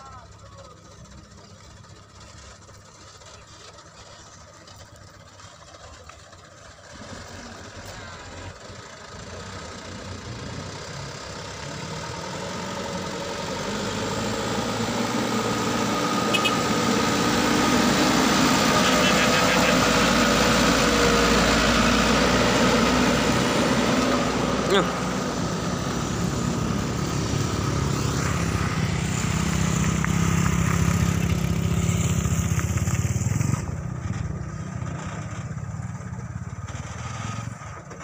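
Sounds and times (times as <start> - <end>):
truck engines running: 0.0 - 38.0
truck passing by: 0.0 - 38.0.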